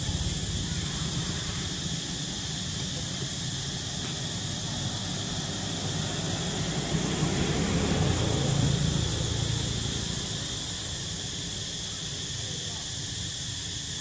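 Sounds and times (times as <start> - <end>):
passing motor engine hum: 0.0 - 13.0
insects droning: 0.0 - 14.0.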